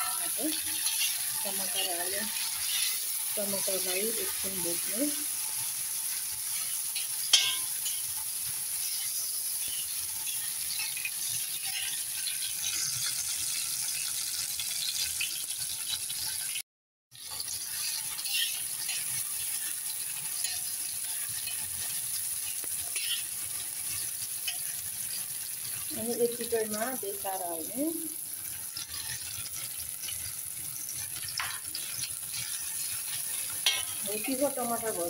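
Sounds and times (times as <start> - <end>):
metal spatula scraping a wok: 0.0 - 13.7, 17.7 - 25.8, 28.4 - 35.0
vegetables sizzling in hot oil: 0.0 - 35.0.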